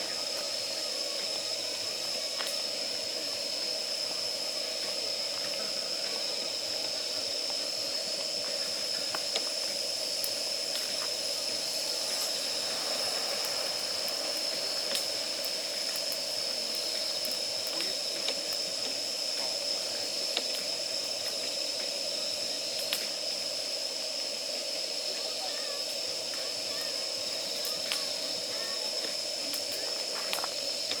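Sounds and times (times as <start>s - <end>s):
gas burner hissing: 0.0s - 31.0s.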